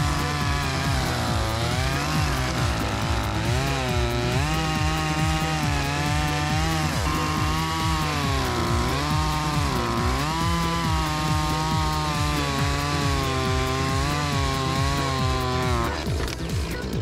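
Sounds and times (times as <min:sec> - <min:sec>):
chainsaw cutting through log: 0:00.0 - 0:17.0.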